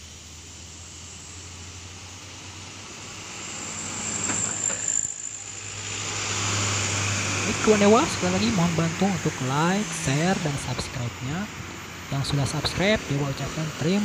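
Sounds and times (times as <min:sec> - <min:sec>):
truck approaching: 0:00.0 - 0:14.0.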